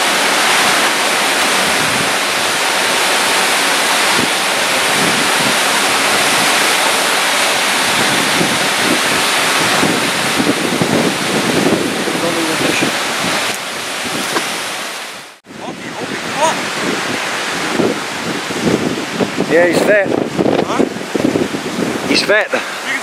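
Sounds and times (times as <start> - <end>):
water rushing over rocks: 0.0 - 23.0
wind buffeting microphone: 0.0 - 23.0.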